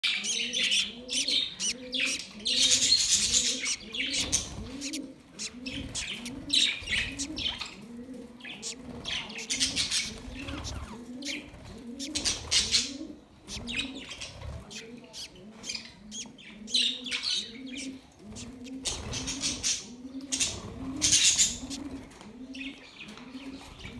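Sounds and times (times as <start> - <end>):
budgerigars chirping and chattering: 0.0 - 23.9.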